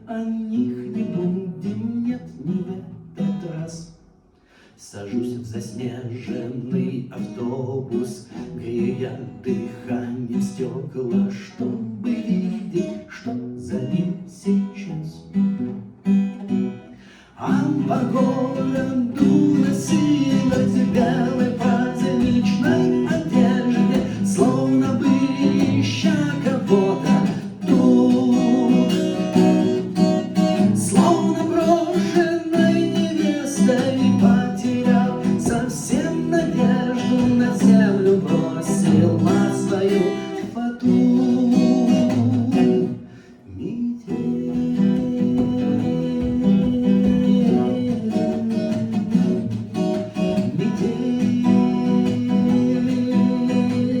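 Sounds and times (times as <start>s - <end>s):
acoustic guitar playing: 0.0s - 3.9s, 5.9s - 54.0s.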